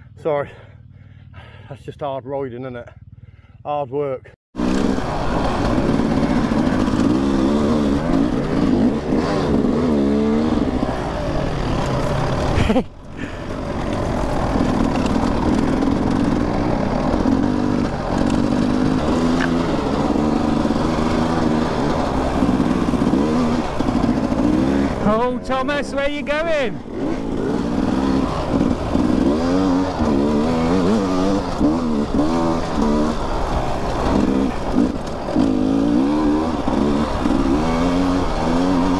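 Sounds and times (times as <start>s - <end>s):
dirt bike engine revving: 4.6s - 38.9s.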